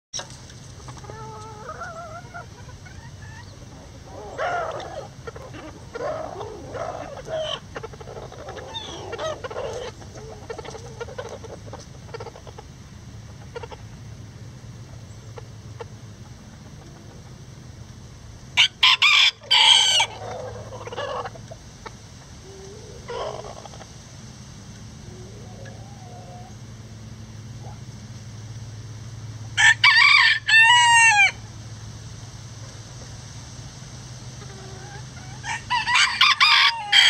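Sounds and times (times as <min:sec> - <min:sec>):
chickens clucking and calling: 0:00.2 - 0:37.0.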